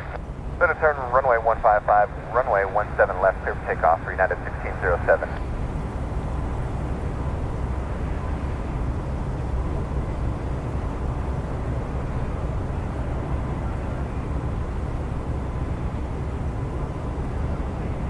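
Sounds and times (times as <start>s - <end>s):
faint steady whine: 0.0s - 18.0s
jet engines rumbling: 0.0s - 18.0s.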